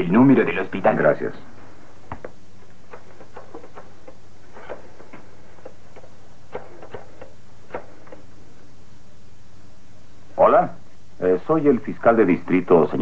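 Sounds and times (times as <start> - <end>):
soundtrack hiss: 0.0 - 13.0.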